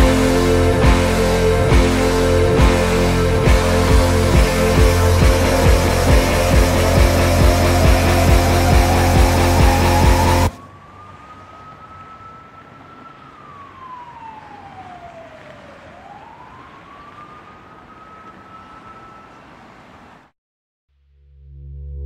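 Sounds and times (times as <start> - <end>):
siren-like wailing tone: 0.0 - 19.4.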